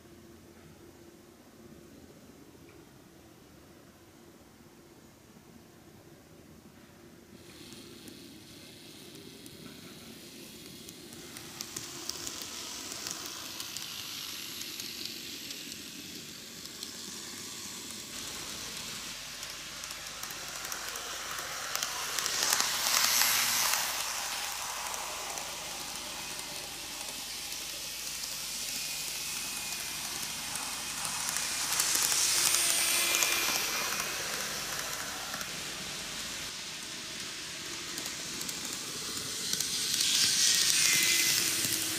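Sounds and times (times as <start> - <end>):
model trains rattling on rails: 7.4 - 41.9.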